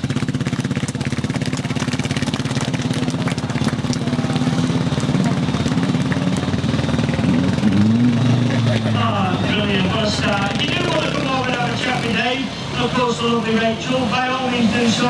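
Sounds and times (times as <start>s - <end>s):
quad bike engine idling: 0.0s - 15.0s.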